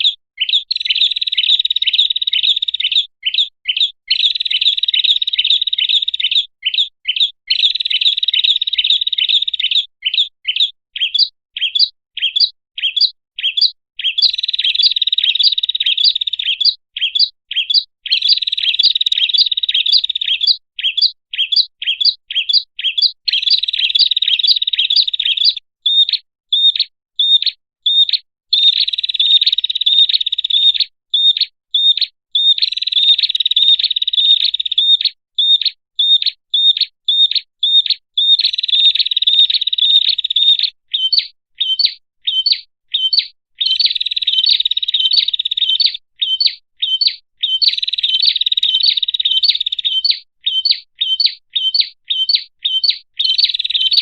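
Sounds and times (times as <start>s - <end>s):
bird chirps and trills: 0.0s - 54.0s.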